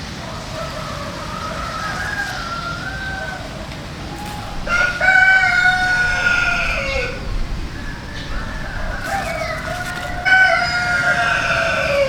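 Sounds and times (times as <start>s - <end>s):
rooster crowing: 0.2s - 12.0s.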